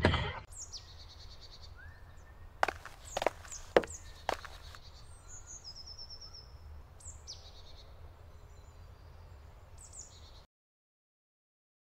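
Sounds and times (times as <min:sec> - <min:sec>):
songbirds singing: 0:00.5 - 0:10.5.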